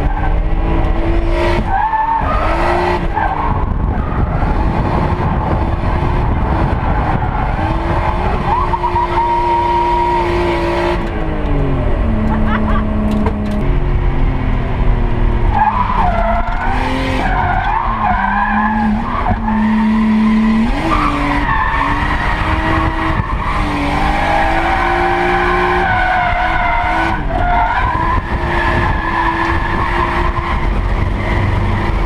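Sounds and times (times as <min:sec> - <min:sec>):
car engine revving hard: 0:00.0 - 0:13.7, 0:15.4 - 0:32.0
tyres skidding: 0:00.0 - 0:32.0.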